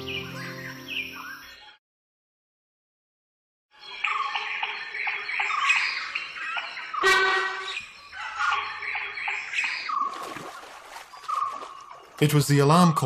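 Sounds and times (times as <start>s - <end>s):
forest birds chirping: 0.0s - 1.8s, 3.7s - 13.0s.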